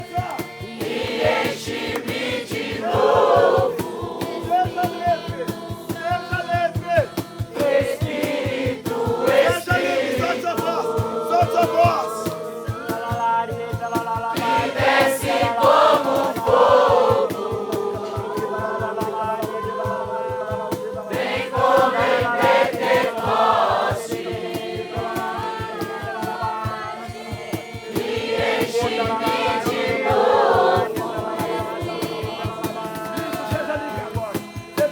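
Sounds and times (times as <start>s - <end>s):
group singing worship song: 0.0s - 34.9s
music with steady beat: 0.0s - 34.9s.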